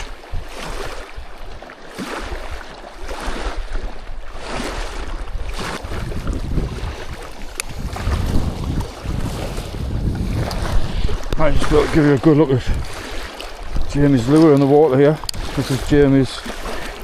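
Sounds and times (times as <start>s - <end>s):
small waves washing against wall: 0.0s - 17.0s
wind on microphone: 0.0s - 17.0s.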